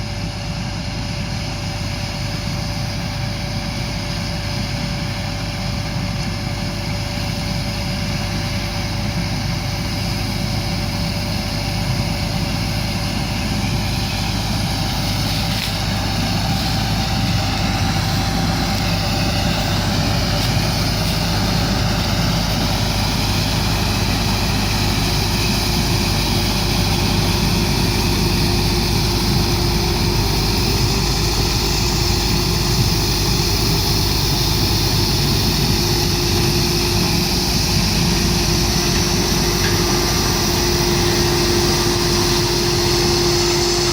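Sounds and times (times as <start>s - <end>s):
harvest machinery engine drone: 0.0s - 43.9s.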